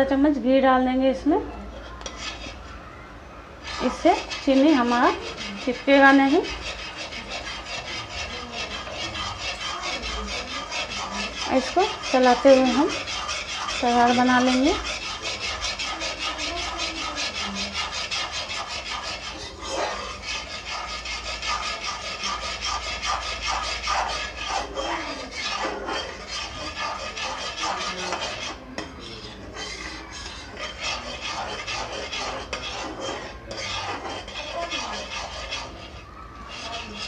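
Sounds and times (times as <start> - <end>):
metal spoon scraping steel pan: 1.7 - 2.7, 3.6 - 37.0.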